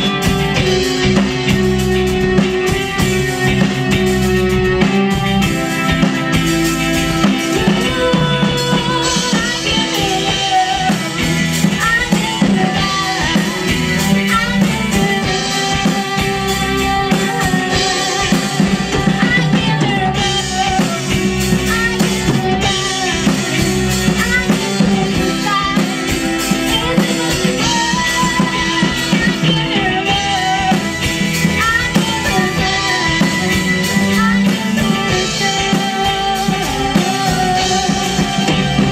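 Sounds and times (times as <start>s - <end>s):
drums keeping steady beat: 0.0s - 38.9s
live rock band playing: 0.0s - 38.9s.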